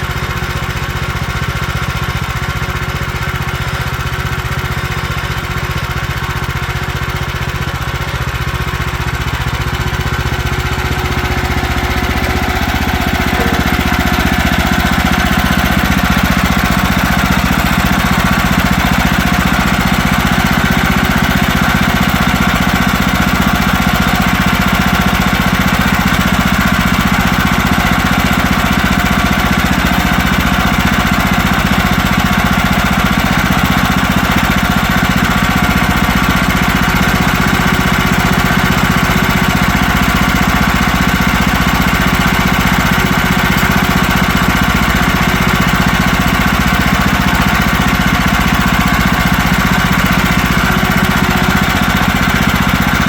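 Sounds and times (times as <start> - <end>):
sawmill gas engine running: 0.0 - 53.0.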